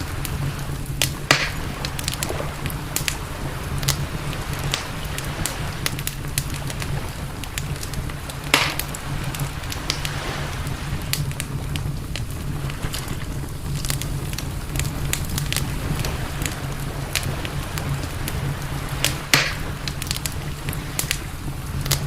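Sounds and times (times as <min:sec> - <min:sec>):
campfire crackling: 0:00.0 - 0:22.0
steady low rumble: 0:00.0 - 0:22.0.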